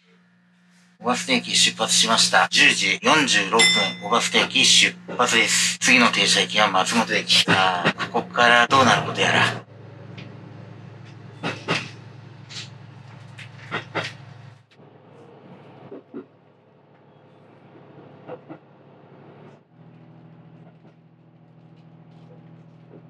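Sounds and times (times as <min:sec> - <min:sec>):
railcar engine drone: 0:00.0 - 0:23.0.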